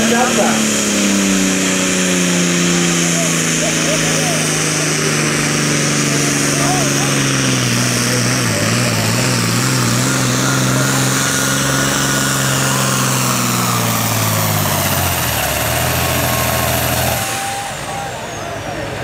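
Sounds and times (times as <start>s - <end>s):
high whine winding down: 0.0s - 18.8s
diesel tractor engine running: 0.0s - 19.0s.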